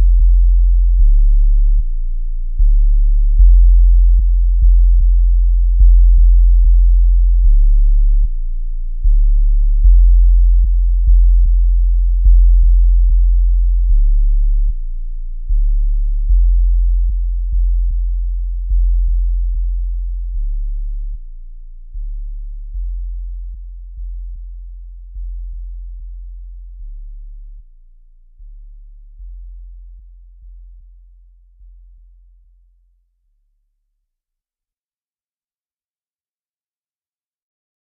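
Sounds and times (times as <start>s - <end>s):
deep bass sine tones: 0.0s - 33.0s.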